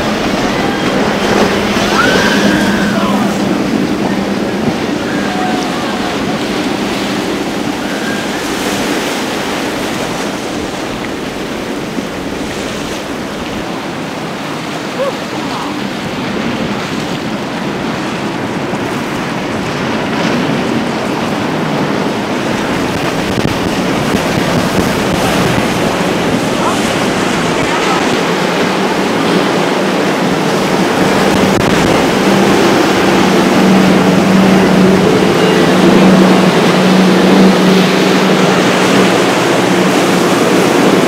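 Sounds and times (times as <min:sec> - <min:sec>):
water splashing and churning: 0:00.0 - 0:41.0
wind noise on microphone: 0:00.0 - 0:41.0.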